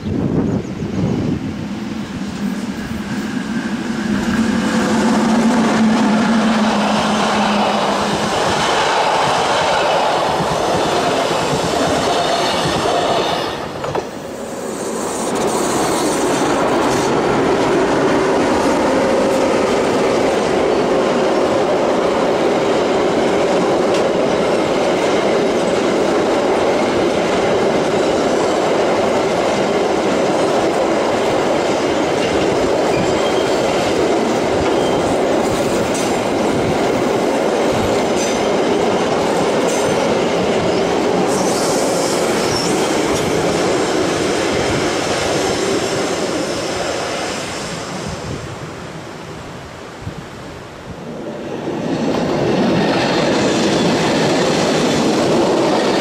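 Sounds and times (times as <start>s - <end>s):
train passing: 0.0s - 56.0s.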